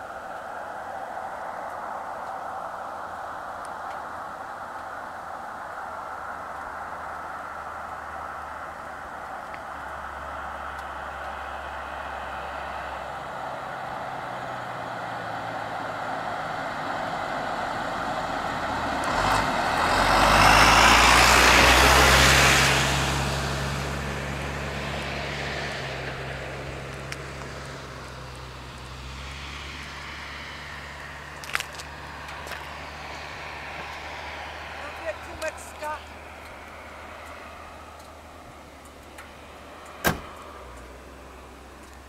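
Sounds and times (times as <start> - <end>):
vehicle passing by: 0.0 - 42.0.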